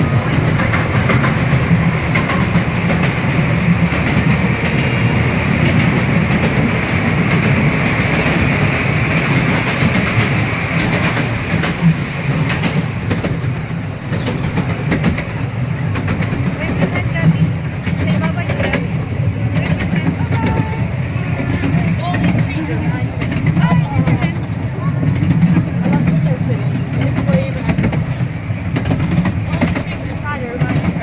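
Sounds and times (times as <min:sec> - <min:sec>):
small train rumbling: 0:00.0 - 0:31.0
wheels clacking on rails: 0:00.0 - 0:31.0.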